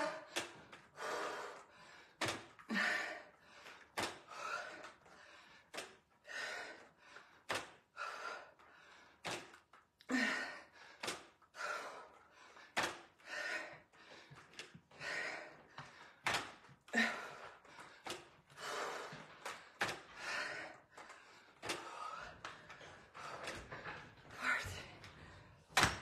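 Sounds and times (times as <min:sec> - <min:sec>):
woman gasping breaths: 0:00.0 - 0:09.4, 0:10.0 - 0:25.8.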